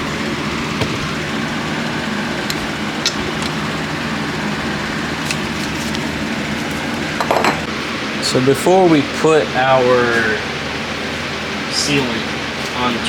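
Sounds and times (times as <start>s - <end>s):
mechanical hum and hiss: 0.0s - 13.0s.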